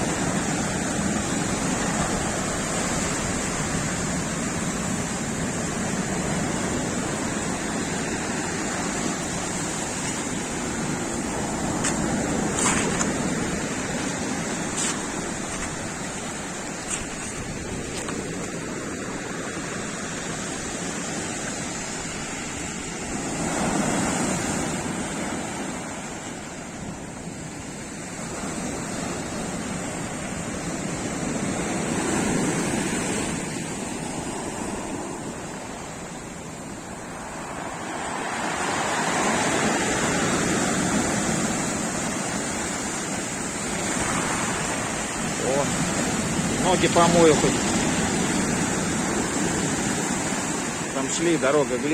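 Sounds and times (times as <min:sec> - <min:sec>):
sea surf breaking on shore: 0:00.0 - 0:51.9.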